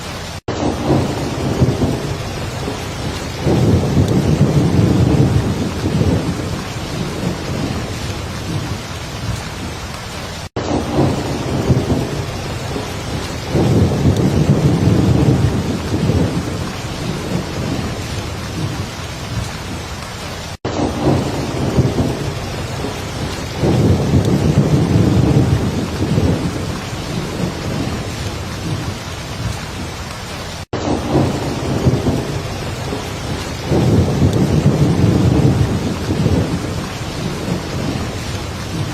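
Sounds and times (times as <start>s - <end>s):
heavy rain: 0.0s - 38.9s
low rolling thunder: 0.5s - 9.7s, 10.6s - 19.9s, 20.7s - 30.0s, 30.8s - 38.9s.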